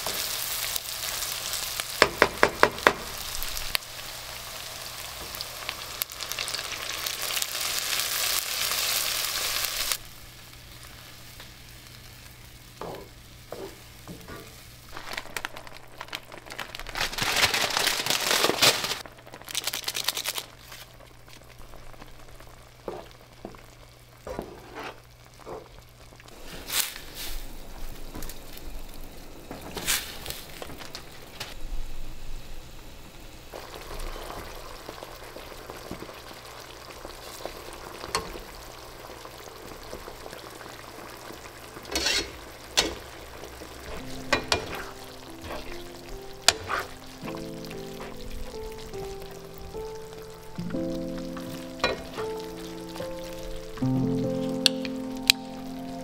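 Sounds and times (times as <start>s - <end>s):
food sizzling in frying pan: 0.0s - 56.0s.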